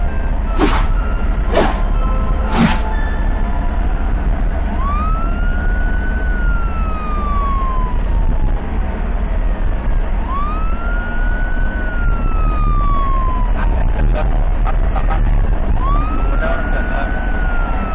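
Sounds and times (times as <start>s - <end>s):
ambulance siren wailing: 0.0s - 17.9s
vehicle driving rumble: 0.0s - 17.9s.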